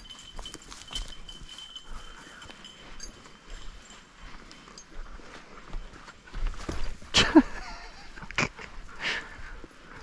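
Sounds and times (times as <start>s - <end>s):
footsteps through undergrowth: 0.0s - 10.0s.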